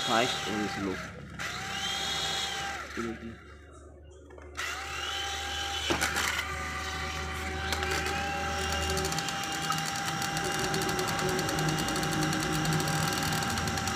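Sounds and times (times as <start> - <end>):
toy helicopter motor whirring: 0.0 - 3.4, 4.6 - 13.9.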